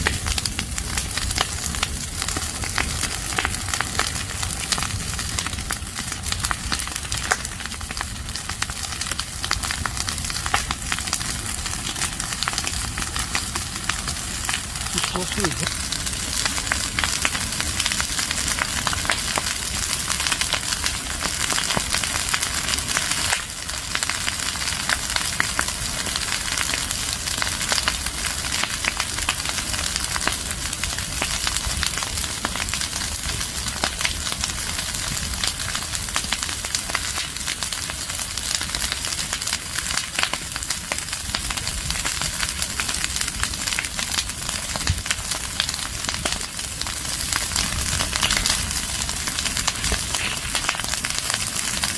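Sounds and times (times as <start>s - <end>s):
burning leaves crackling: 0.0s - 51.9s
fire hiss: 0.0s - 51.9s.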